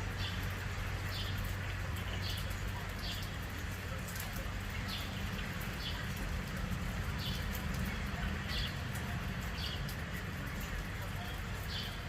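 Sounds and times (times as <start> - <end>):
raindrops ticking: 0.0 - 12.0
steady rain: 0.0 - 12.0.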